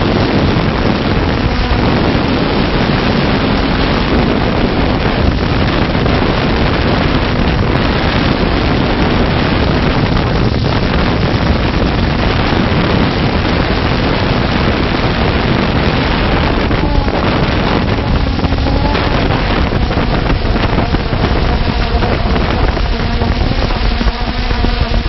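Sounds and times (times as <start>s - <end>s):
loud rushing noise: 0.0s - 25.0s.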